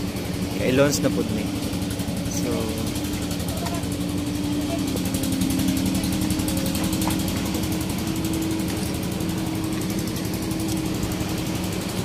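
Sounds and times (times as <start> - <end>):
truck diesel engine humming: 0.0 - 12.0.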